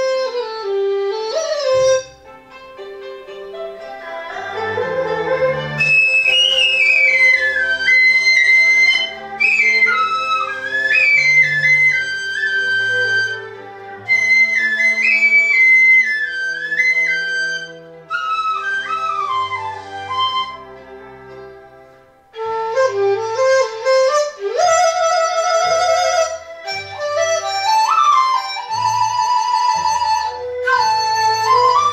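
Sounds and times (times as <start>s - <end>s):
bamboo flute melody: 0.0s - 31.9s.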